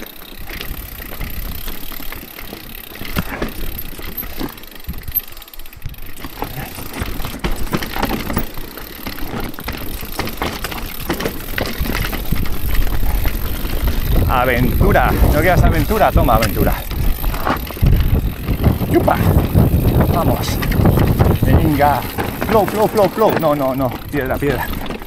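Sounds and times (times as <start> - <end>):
bike knocking and rattling: 0.0 - 25.0
tyres crunching over stones: 0.2 - 25.0.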